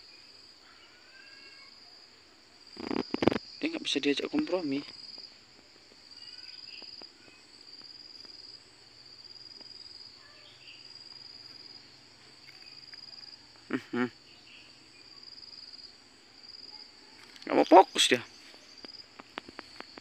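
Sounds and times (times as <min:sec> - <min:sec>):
insect trilling: 0:00.0 - 0:05.4, 0:06.0 - 0:20.0.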